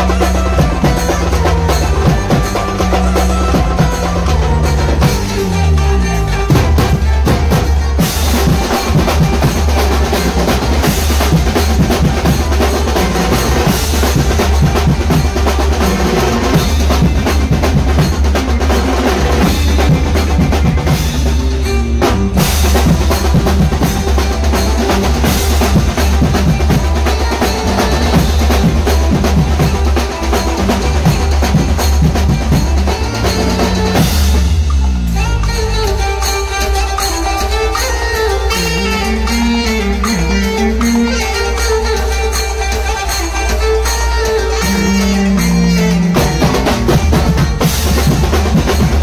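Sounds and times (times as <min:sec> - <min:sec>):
fast dense drumming: 0:00.0 - 0:41.4, 0:43.6 - 0:49.0
cymbals: 0:00.0 - 0:49.0
saxophone: 0:00.0 - 0:49.0.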